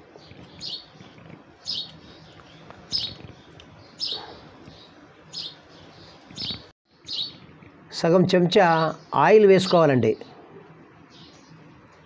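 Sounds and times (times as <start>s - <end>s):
bird chirping: 0.1s - 7.5s, 8.2s - 11.8s.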